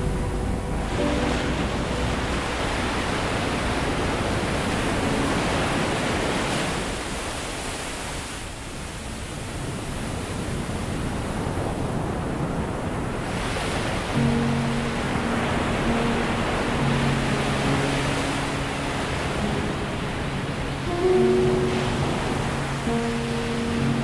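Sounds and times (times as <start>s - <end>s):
ocean waves washing: 0.0s - 24.0s.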